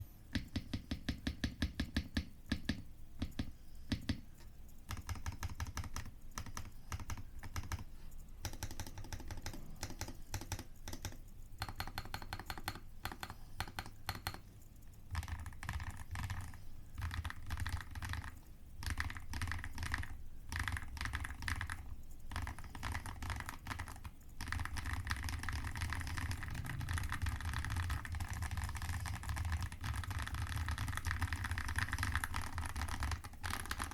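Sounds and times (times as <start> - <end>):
mechanical keyboard typing: 0.3 - 14.5, 15.1 - 33.9.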